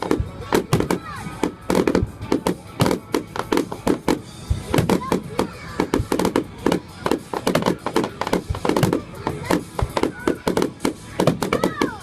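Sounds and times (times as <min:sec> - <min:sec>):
deep firework thuds: 0:00.0 - 0:12.0
fireworks bangs and crackles: 0:00.0 - 0:12.0.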